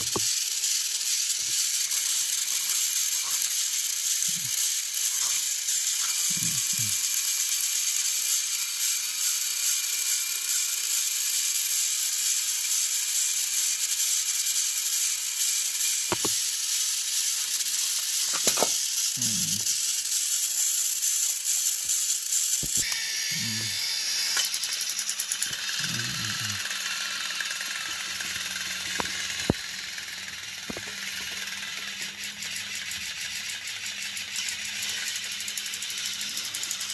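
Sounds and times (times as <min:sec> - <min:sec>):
toy train motors whirring: 0:00.0 - 0:36.9.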